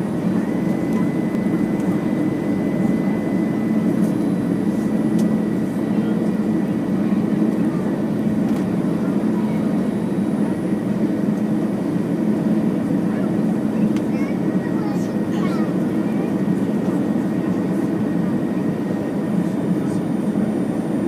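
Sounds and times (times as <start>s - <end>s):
airflow and engine hum: 0.0s - 21.0s.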